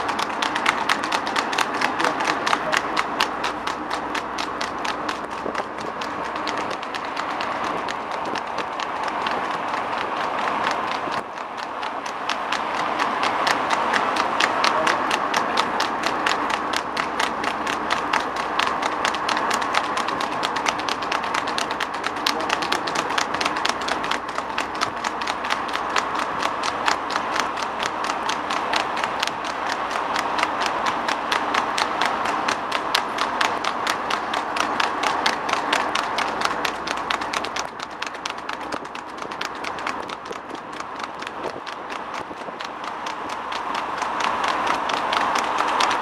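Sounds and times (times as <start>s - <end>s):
hooves clattering on tarmac: 0.0s - 46.0s
vehicle and road noise: 0.0s - 46.0s.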